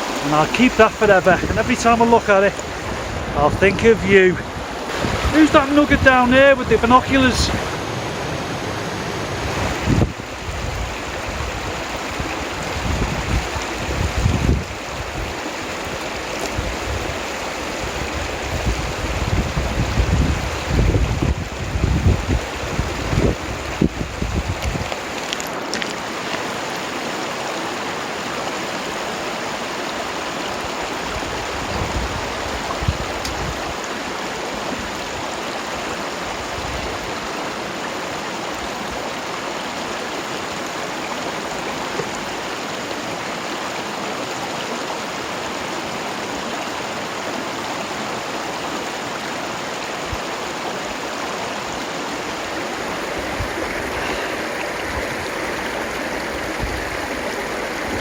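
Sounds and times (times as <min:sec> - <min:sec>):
waterfall and stream rushing: 0:00.0 - 0:58.0.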